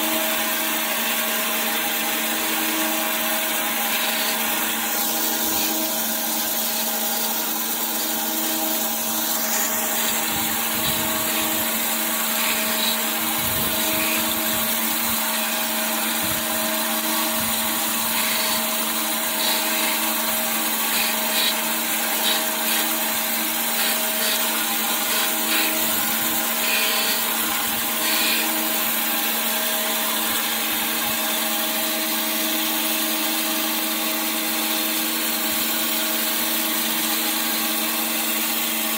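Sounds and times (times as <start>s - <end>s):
surface grinder humming: 0.0s - 33.0s
grinding and coolant spray hiss: 0.1s - 33.4s.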